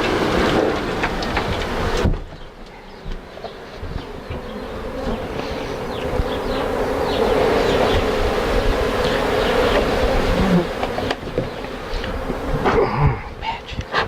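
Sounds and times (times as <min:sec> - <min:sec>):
single bees whining past: 0:00.0 - 0:13.3
bees buzzing in a swarm: 0:00.0 - 0:14.0.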